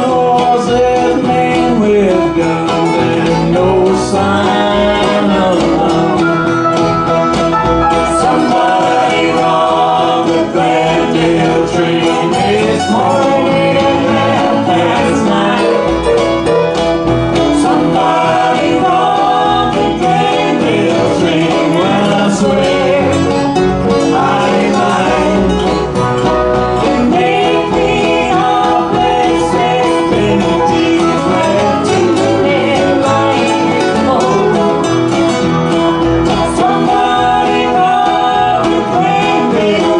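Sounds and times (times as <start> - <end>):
person singing: 0.0 - 6.6, 7.9 - 16.6, 17.4 - 25.9, 26.7 - 35.0, 36.3 - 39.9
acoustic guitars strumming: 0.0 - 39.9.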